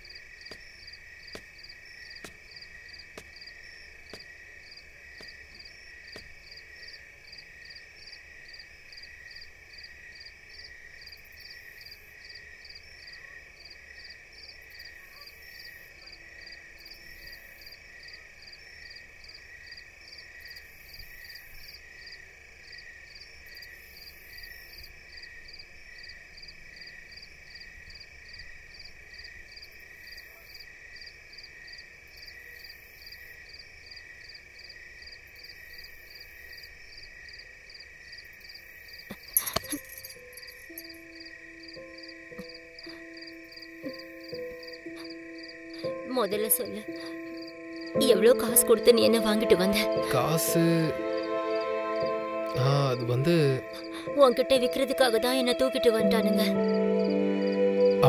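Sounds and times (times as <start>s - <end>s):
insects and frogs chirping: 0.0s - 58.0s.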